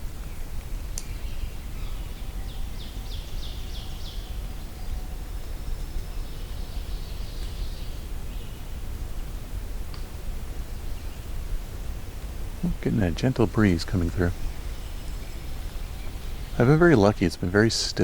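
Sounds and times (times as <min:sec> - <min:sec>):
breeze rumble on microphone: 0:00.0 - 0:18.0.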